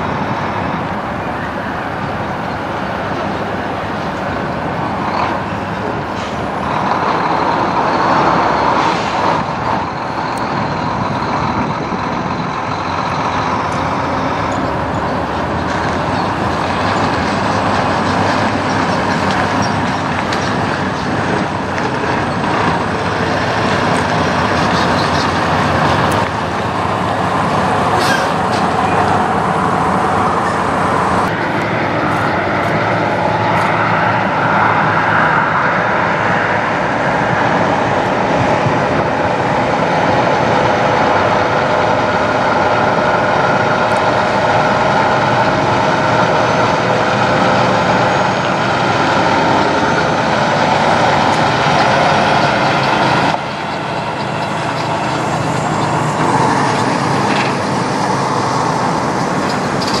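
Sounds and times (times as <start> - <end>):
trucks' diesel engines passing: 0.0 - 60.0.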